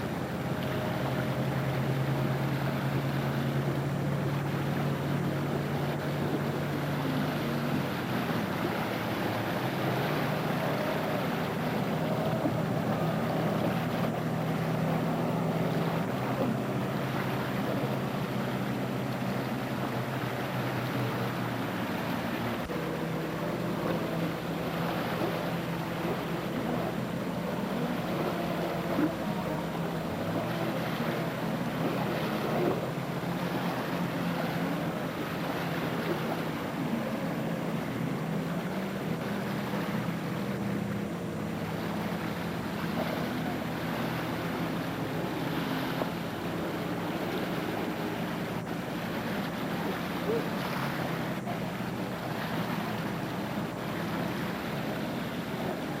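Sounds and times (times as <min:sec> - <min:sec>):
jet ski engine drone: 0:00.0 - 0:56.0
water noise: 0:00.0 - 0:56.0.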